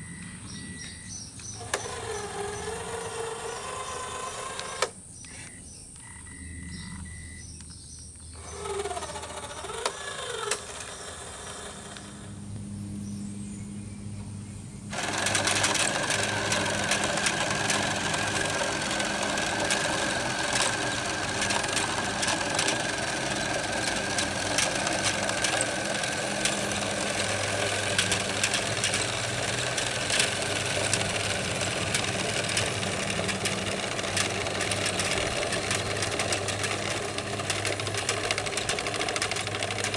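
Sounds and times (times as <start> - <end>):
electric motors whirring and whining: 0.0 - 13.8, 14.8 - 39.9
rapid plastic gear clicking: 1.4 - 5.0, 8.0 - 12.2, 14.9 - 39.9.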